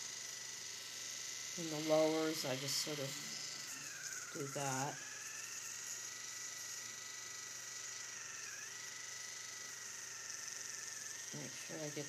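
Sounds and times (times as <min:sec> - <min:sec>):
electric toothbrush buzzing: 0:00.0 - 0:12.0.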